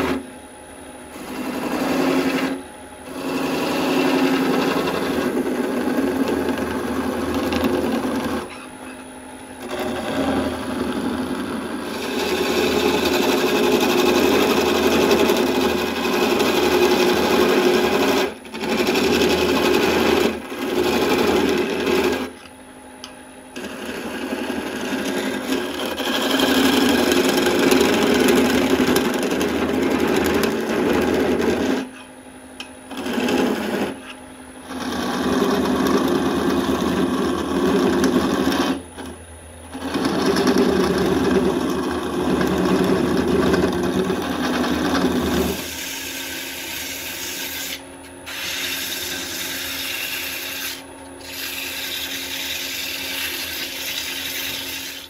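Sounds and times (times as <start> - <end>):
lathe tool scraping wood: 0.0 - 0.3, 1.1 - 22.5, 23.5 - 32.1, 32.9 - 55.0.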